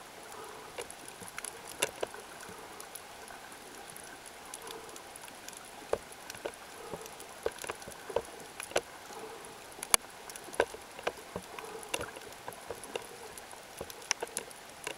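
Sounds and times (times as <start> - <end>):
steady hiss: 0.0 - 14.9
underwater clicks and crackles: 0.0 - 14.9.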